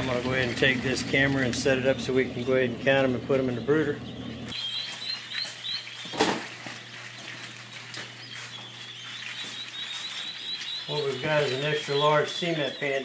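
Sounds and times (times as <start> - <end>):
quail chicks peeping: 0.0 - 13.0.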